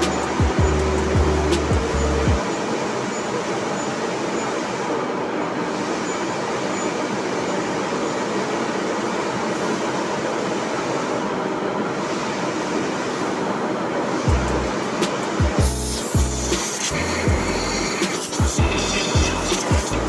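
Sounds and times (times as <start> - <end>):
machine shop roar: 0.0 - 20.0.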